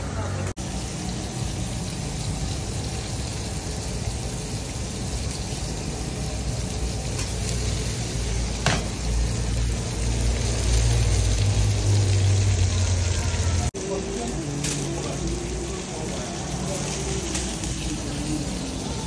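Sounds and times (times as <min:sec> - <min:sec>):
fish sizzling in hot oil: 0:00.6 - 0:19.0.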